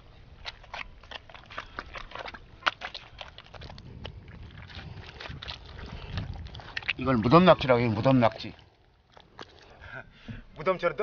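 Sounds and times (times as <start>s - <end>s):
wet mud squelching: 0.0s - 10.7s.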